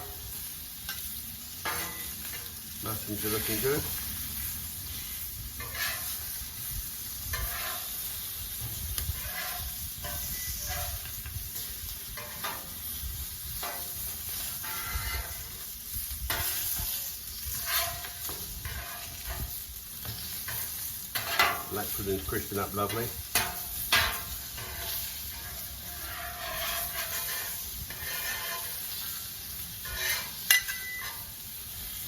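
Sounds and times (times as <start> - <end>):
food sizzling on a griddle: 0.0 - 32.0
spatula scraping griddle: 0.0 - 32.0.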